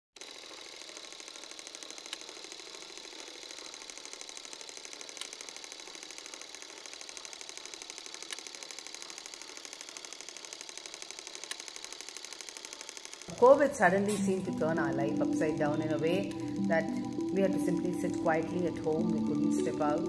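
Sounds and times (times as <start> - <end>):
film projector ticking: 0.2 - 20.0
sharp projector click: 0.2 - 20.0.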